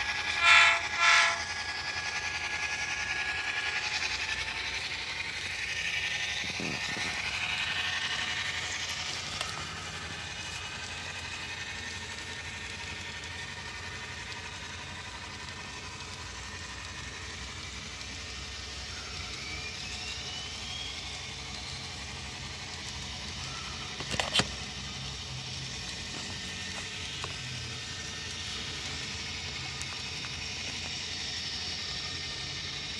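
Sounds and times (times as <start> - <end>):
model locomotive engine sound: 0.0 - 32.9.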